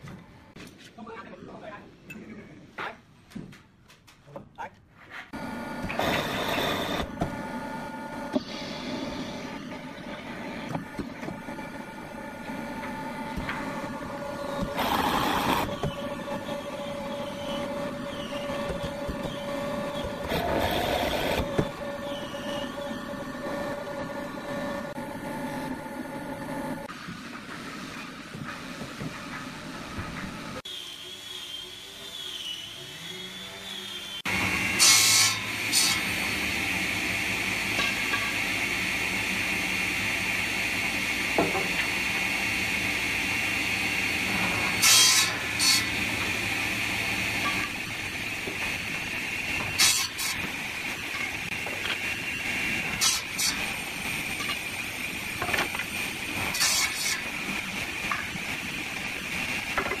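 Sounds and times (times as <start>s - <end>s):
woodworking machine whining: 5.4s - 26.9s, 29.7s - 60.0s.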